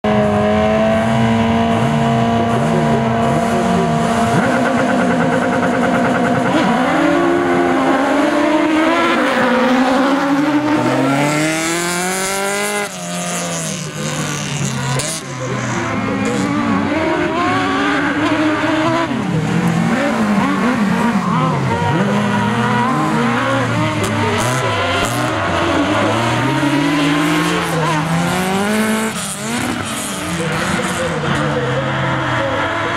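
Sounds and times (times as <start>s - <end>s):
race car engines revving: 0.0s - 32.9s.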